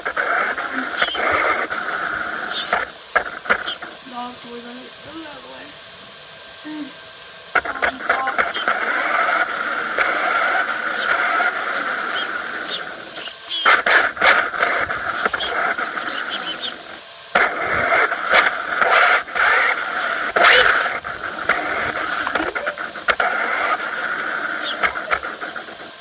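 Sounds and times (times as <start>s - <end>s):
toy truck electric motor whining: 0.0s - 5.8s, 6.5s - 26.0s.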